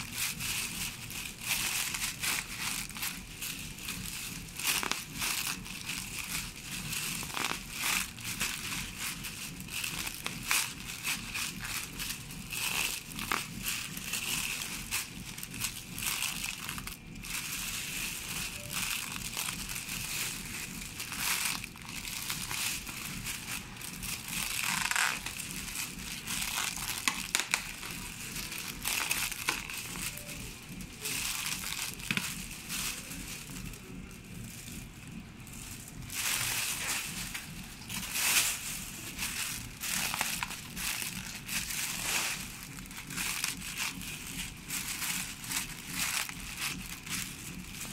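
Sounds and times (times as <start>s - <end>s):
plastic film crinkling: 0.0s - 47.9s.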